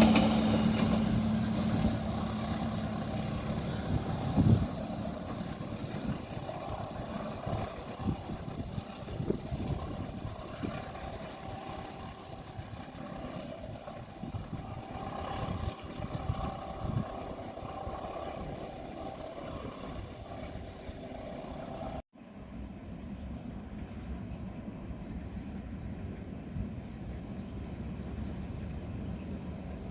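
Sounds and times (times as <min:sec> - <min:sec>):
passing train rumble: 0:00.0 - 0:29.9.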